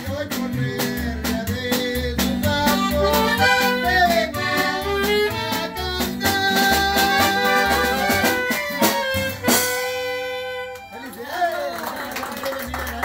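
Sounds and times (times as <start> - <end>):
norteno band playing: 0.0 - 13.0.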